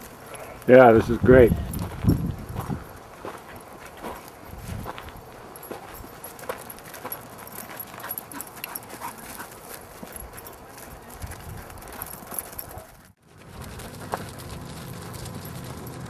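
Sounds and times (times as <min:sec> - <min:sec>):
sheep hooves tapping and scuffling: 0:00.0 - 0:16.0.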